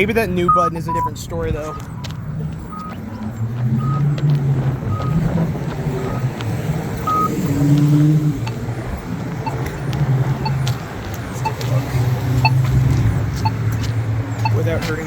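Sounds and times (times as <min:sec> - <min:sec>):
low hum of passing traffic: 0:00.0 - 0:15.0
vehicle engine: 0:00.0 - 0:15.0
pedestrian signal locator beep: 0:00.4 - 0:13.7, 0:14.3 - 0:15.0.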